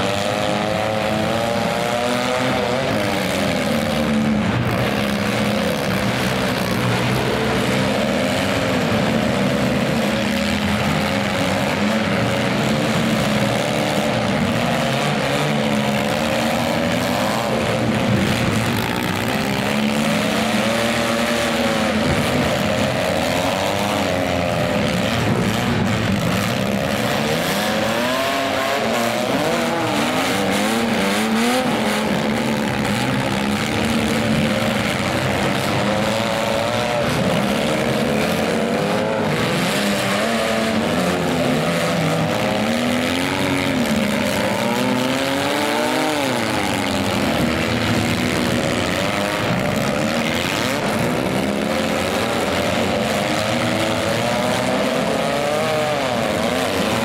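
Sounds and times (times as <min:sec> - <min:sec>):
minivan engines revving: 0:00.0 - 0:57.0.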